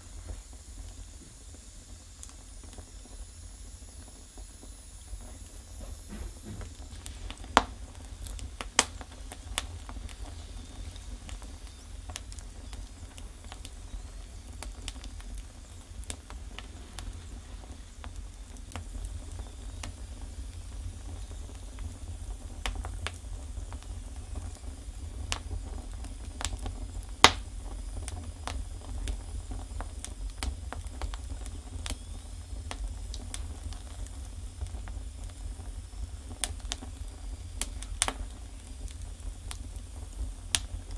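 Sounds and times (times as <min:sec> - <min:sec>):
low steady rumble: 0:00.0 - 0:40.9
sharp pops from fire: 0:00.0 - 0:40.9
wood fire crackling: 0:00.0 - 0:40.9.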